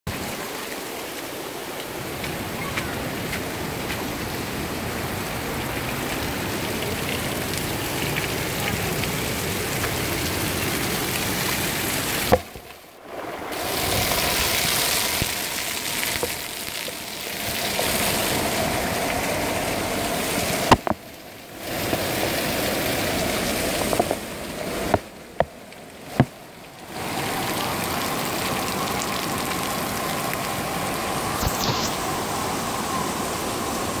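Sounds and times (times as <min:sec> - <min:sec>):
waterfall rushing and splashing: 0:00.1 - 0:34.0.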